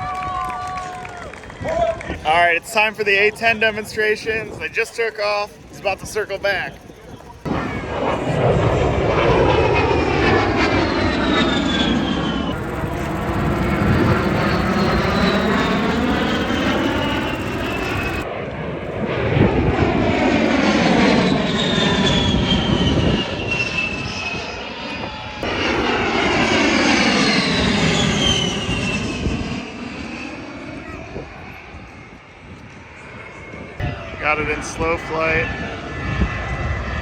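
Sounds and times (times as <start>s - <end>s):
jet engines whining overhead: 0.0s - 37.0s.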